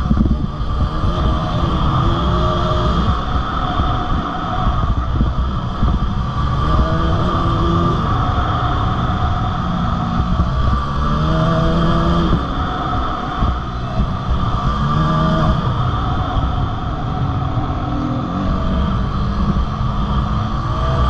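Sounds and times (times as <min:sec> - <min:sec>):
dirt bike engine running: 0:00.0 - 0:21.0
wind buffeting microphone: 0:00.0 - 0:21.0.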